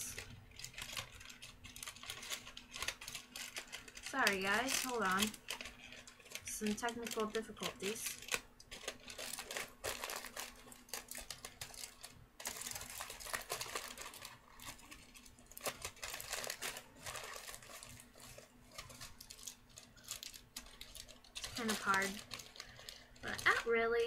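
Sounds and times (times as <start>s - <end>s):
aluminium foil crinkling: 0.0s - 24.0s.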